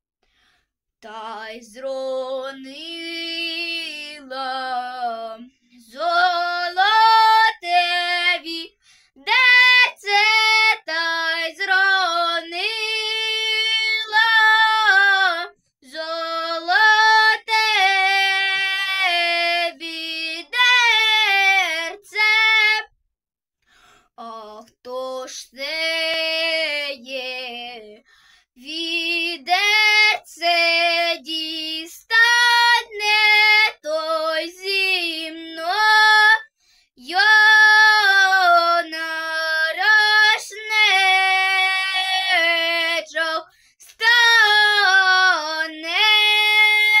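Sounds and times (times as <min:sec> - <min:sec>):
girl singing unaccompanied: 0:01.0 - 0:22.9, 0:24.2 - 0:36.4, 0:37.0 - 0:47.0.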